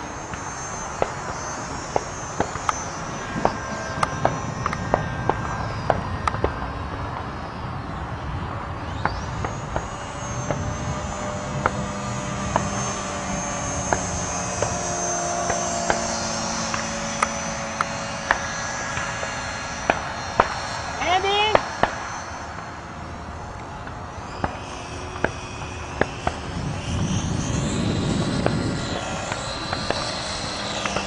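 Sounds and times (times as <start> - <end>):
model plane motor whining: 0.0 - 31.0.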